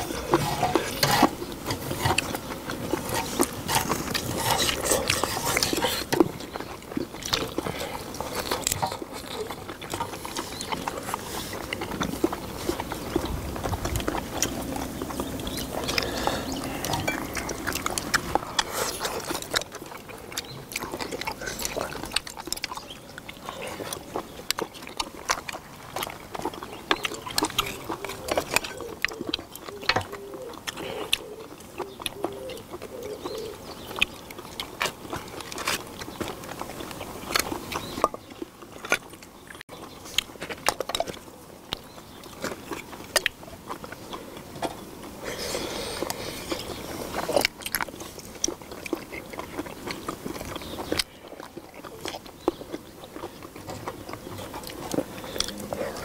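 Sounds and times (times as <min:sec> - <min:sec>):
slurping and sucking food: 0:00.0 - 0:38.1, 0:42.5 - 0:56.0.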